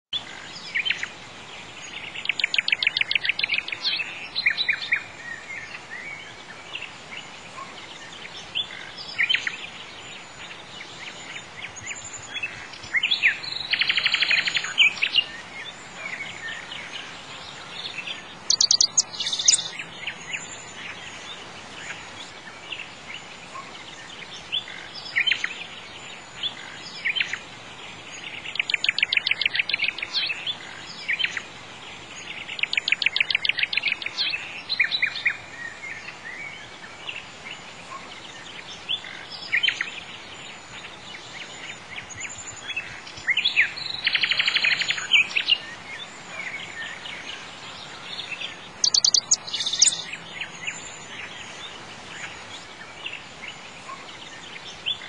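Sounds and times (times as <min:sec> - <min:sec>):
songbirds chirping and trilling: 0:00.1 - 0:55.0
faint steady hiss: 0:00.2 - 0:55.0.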